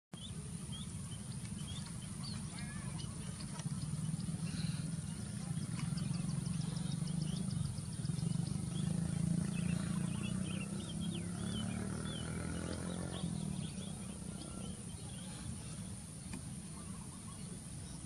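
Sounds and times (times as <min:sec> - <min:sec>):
birds chirping: 0:00.2 - 0:18.0
steady low rumble: 0:00.2 - 0:18.0.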